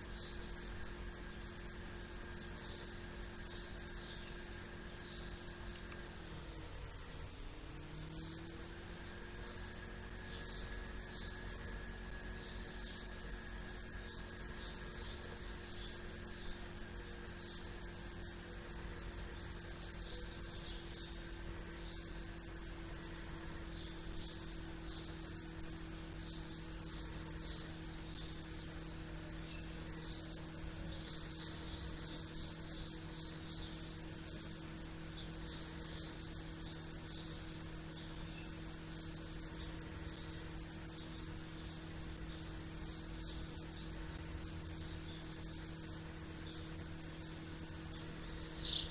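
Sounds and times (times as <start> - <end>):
small birds chirping: 0.0 - 48.9
steady low hum: 0.0 - 48.9.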